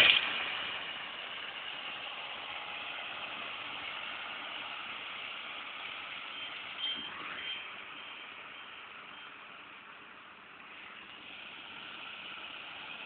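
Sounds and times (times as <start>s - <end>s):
tractor and baler droning: 0.0s - 13.0s.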